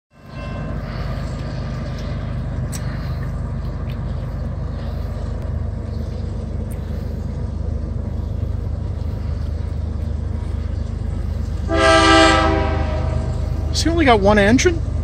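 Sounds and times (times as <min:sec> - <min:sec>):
distant diesel locomotive drone: 0:00.1 - 0:15.0.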